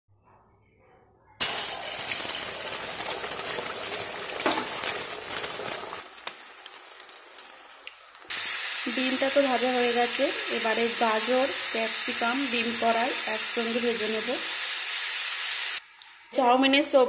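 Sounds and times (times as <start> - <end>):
egg sizzling in hot oil: 1.4 - 16.9.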